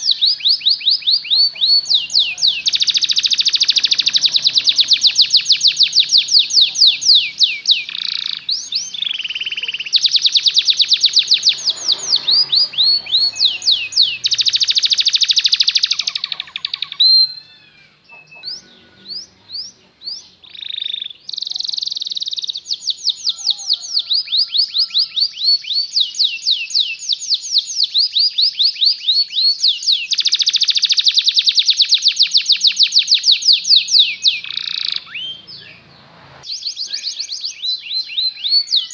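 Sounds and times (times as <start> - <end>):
canary chirps and whistles: 0.0 - 38.9
canary singing trills: 0.0 - 38.9.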